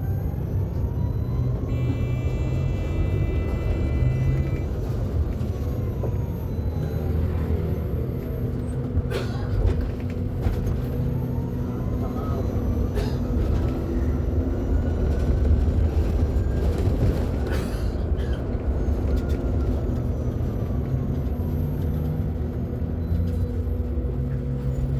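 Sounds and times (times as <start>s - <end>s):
electric bus motor whining: 0.0s - 24.9s.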